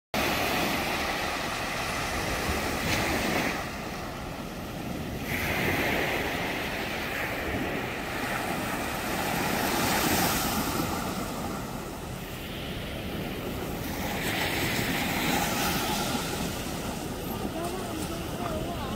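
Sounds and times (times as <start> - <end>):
small waves breaking on beach: 0.2 - 18.9.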